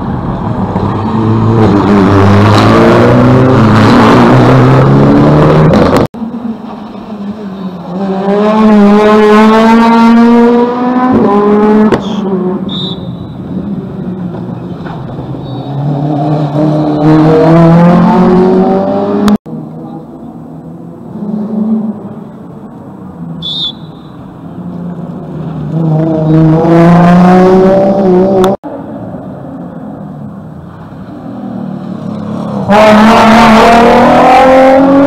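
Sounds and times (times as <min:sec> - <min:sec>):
rally car engines accelerating: 0:00.5 - 0:12.7, 0:13.6 - 0:22.5, 0:24.6 - 0:28.6, 0:30.8 - 0:35.0.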